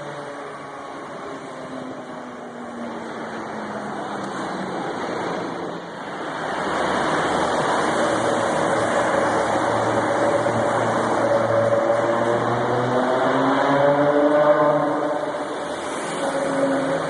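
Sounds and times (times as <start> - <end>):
sports car engine passing: 0.0 - 17.0
traffic noise in tunnel: 0.0 - 17.0.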